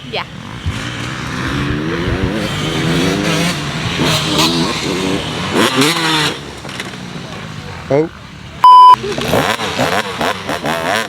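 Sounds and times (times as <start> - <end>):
motorbike engine revving: 0.0 - 8.1, 8.7 - 11.0.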